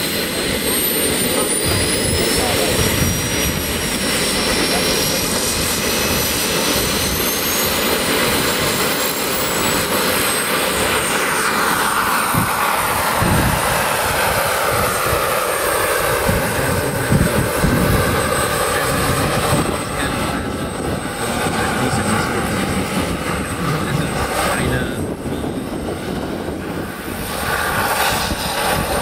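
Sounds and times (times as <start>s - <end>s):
helicopter rotor blades thudding: 0.0s - 29.0s
high engine whine: 0.0s - 29.0s.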